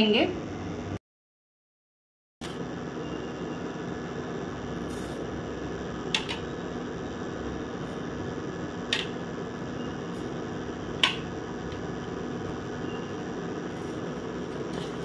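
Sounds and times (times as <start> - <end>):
steady background hum: 2.4 - 15.0.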